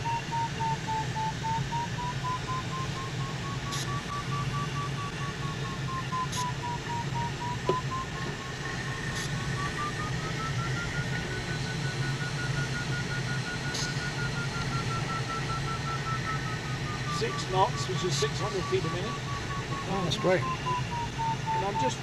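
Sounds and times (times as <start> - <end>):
variometer beeping: 0.0 - 22.0.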